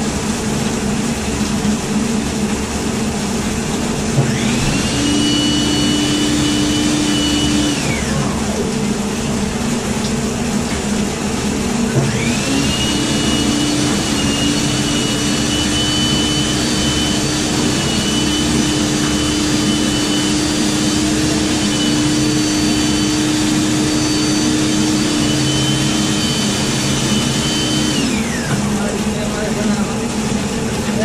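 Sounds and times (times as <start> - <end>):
drain machine whining: 0.0 - 31.0
low motor hum: 0.0 - 31.0.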